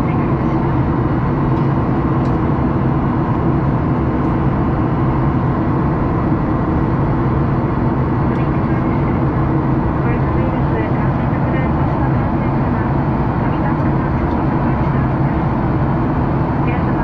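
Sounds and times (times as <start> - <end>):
jet airliner cabin roar: 0.0 - 17.0.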